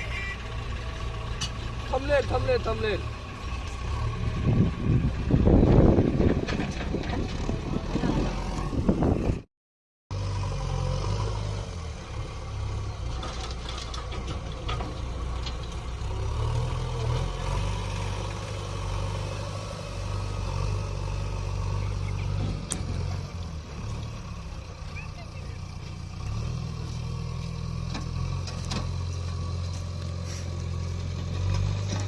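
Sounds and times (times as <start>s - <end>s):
heavy diesel engine running: 0.0s - 9.4s, 10.1s - 32.0s.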